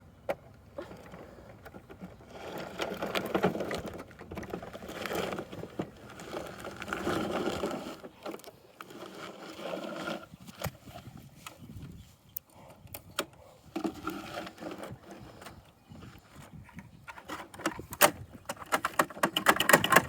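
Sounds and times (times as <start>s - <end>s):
plastic toy truck rattling: 0.8s - 10.9s, 13.7s - 20.0s.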